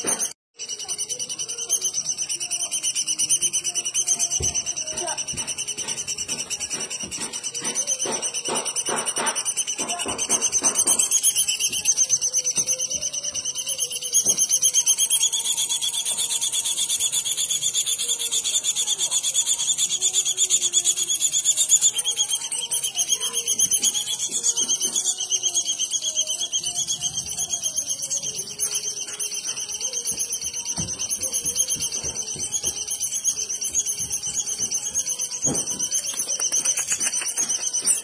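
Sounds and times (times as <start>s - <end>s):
bird trilling: 0.0s - 38.0s.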